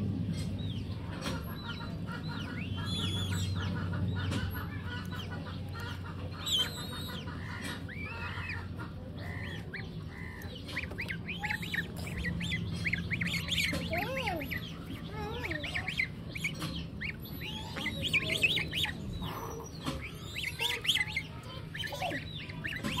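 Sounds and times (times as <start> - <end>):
goslings peeping: 0.3 - 23.0
lower calls: 1.5 - 23.0.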